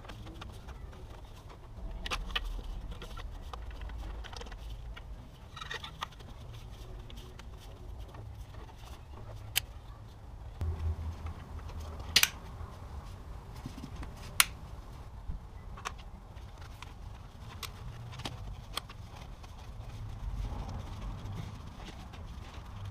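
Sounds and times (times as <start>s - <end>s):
low rumble of handling: 0.0s - 22.9s.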